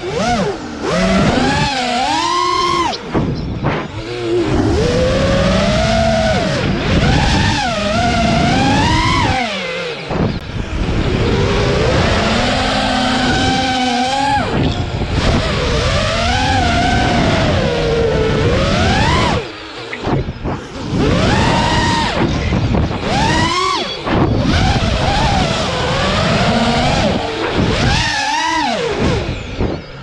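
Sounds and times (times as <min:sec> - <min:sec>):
drone motors and propellers whining: 0:00.0 - 0:30.0.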